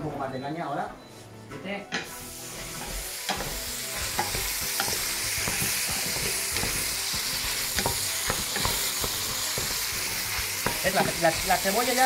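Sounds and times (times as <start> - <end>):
vegetables sizzling in pan: 2.0 - 12.0.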